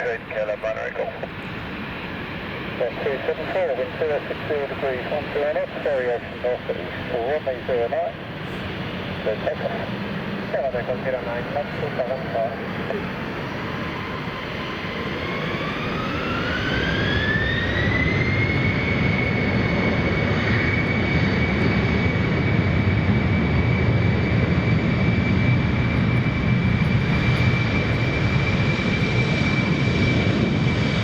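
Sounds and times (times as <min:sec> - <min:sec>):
jet engines spooling up: 0:00.2 - 0:31.0.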